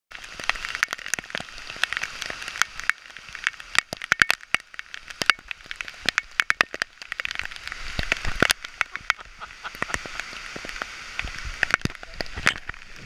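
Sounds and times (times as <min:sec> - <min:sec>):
rain falling in forest: 0:00.1 - 0:13.0
raindrops tapping camera housing: 0:00.1 - 0:13.0.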